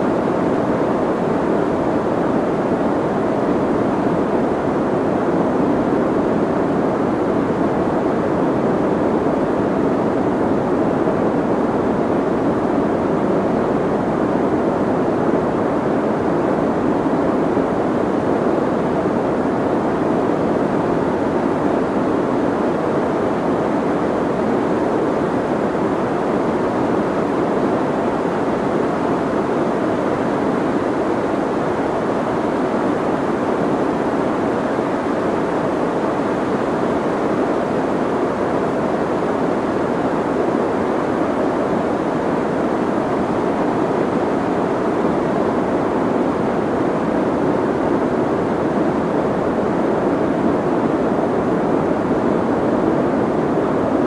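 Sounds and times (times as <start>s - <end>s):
muffled white noise: 0.0s - 54.0s.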